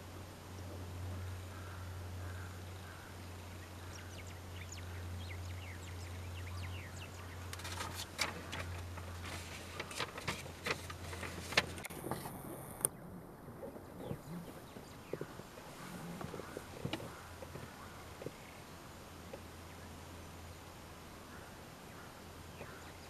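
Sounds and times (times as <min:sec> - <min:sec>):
small birds chirping: 0:00.0 - 0:10.0, 0:11.0 - 0:23.0
steady low hum: 0:00.0 - 0:23.0.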